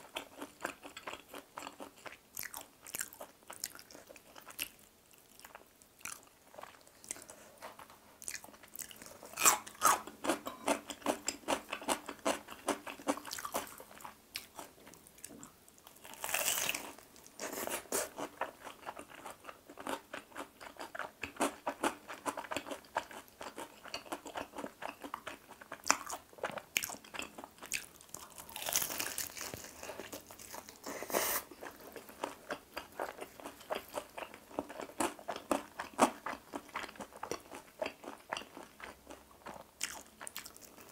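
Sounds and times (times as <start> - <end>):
crunching fried chicken: 0.0 - 40.9.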